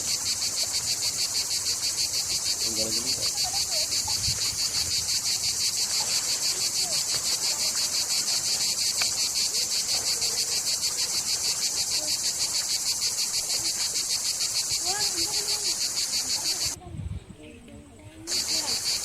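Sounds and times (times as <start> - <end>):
insects chirping: 0.0 - 16.8, 17.4 - 19.0.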